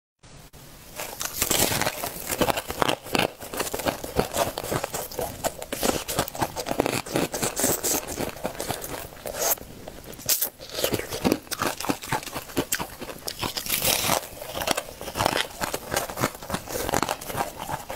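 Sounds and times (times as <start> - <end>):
ice being chewed: 1.0 - 17.9.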